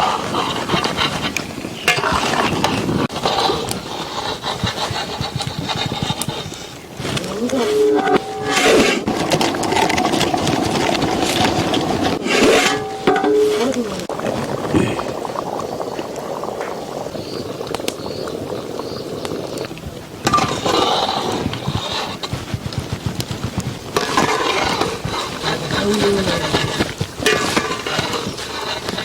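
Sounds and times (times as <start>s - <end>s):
scraping in a pot: 0.0s - 15.9s, 19.5s - 29.0s
gravy bubbling in a pot: 0.0s - 29.0s.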